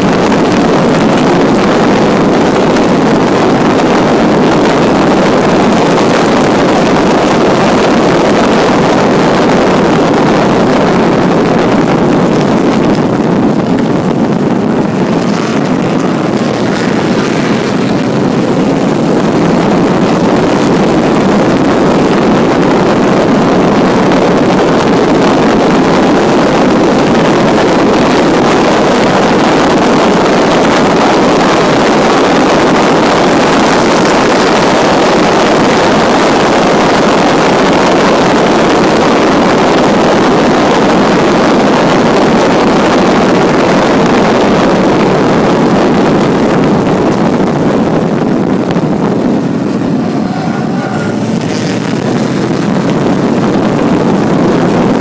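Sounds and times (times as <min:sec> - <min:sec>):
race car engine running hard: 0:00.0 - 0:55.0
wind rush on microphone: 0:00.0 - 0:55.0.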